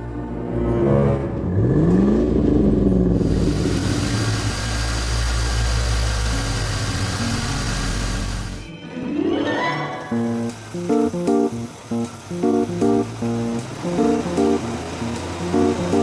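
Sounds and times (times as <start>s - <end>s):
engine revving: 0.8s - 8.7s, 10.1s - 16.0s.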